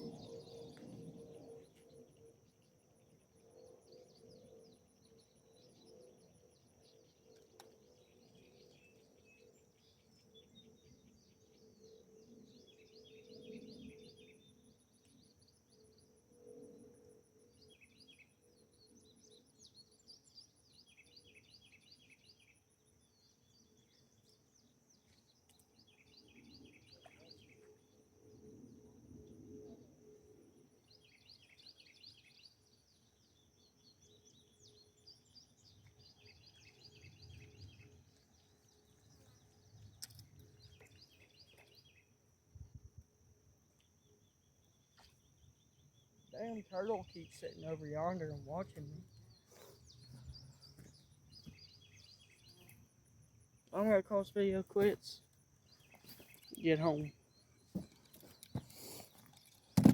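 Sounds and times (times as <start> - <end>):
small birds chirping: 0.0 - 16.6, 17.5 - 28.8, 30.8 - 42.1, 43.8 - 59.9
insects droning and trilling: 0.0 - 59.9.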